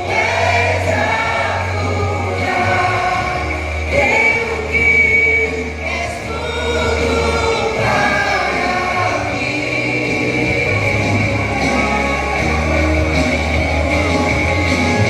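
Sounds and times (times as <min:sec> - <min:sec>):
steady bass accompaniment: 0:00.0 - 0:15.0
vocal group singing gospel: 0:00.0 - 0:15.0.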